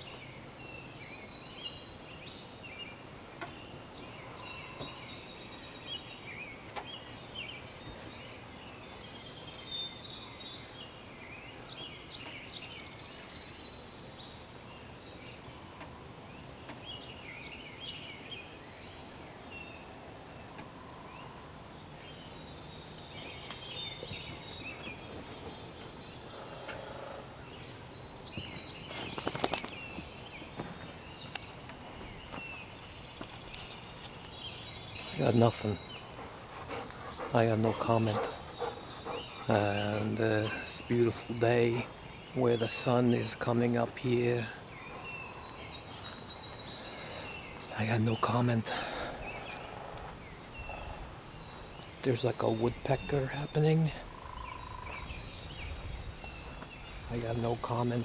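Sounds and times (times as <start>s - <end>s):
songbirds chirping and singing: 0.0s - 58.0s
steady outdoor hiss: 0.0s - 58.0s.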